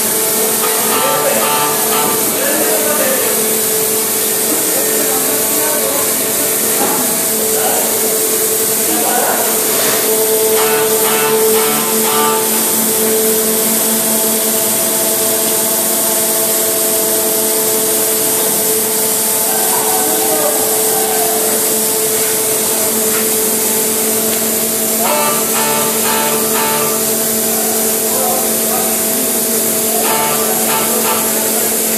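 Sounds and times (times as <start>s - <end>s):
machinery constant hum: 0.0s - 31.9s
machinery loud hiss: 0.0s - 31.9s
workers calling out: 0.2s - 14.0s, 18.5s - 23.6s, 24.4s - 31.9s.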